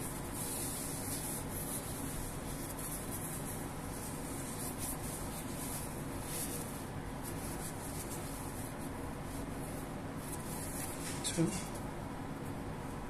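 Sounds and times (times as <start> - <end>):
paper towel rubbing on skin: 0.0 - 11.9
low background hum: 0.0 - 13.0.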